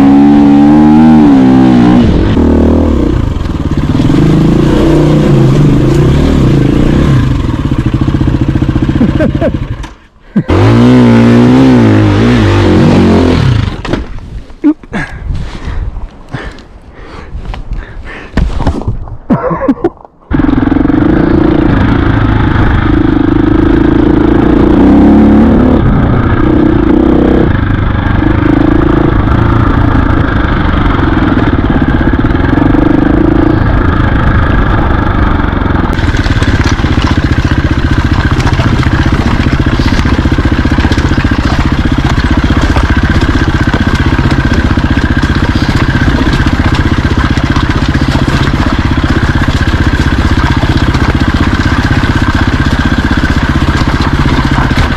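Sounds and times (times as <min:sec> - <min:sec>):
dirt bike engine revving: 0:00.0 - 0:14.0, 0:20.3 - 0:54.9.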